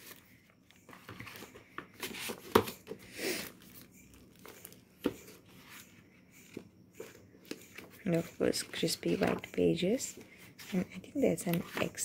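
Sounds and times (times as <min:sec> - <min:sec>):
paper rustling and crinkling: 0:00.0 - 0:09.4, 0:10.2 - 0:12.0.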